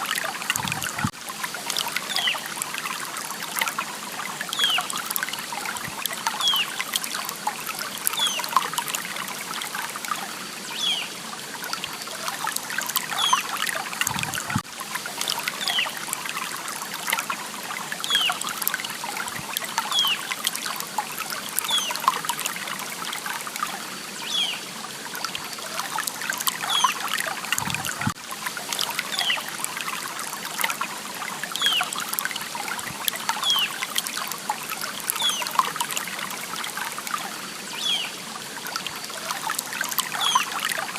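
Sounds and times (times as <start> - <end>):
stream trickling and splashing: 0.0 - 40.9.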